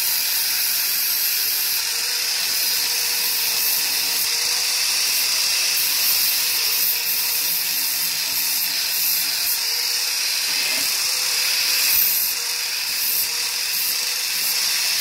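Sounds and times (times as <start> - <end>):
power tool grinding metal: 0.0 - 15.0.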